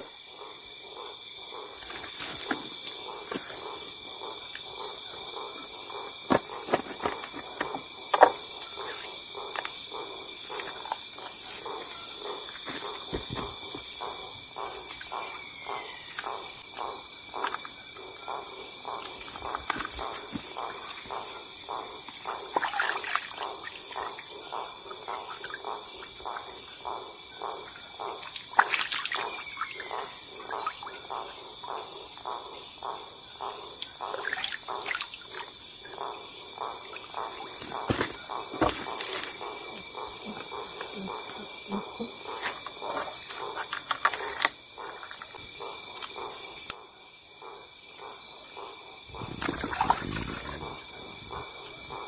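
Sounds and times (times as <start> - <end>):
crickets and insects trilling: 0.0 - 52.0.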